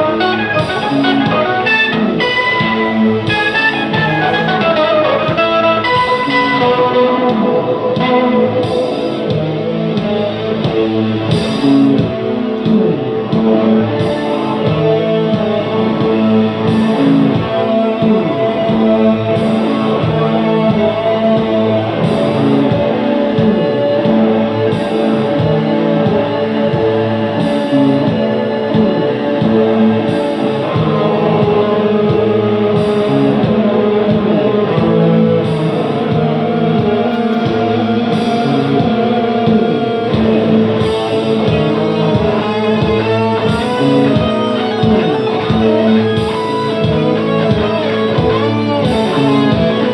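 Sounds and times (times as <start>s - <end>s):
electric guitar chords: 0.0s - 49.9s.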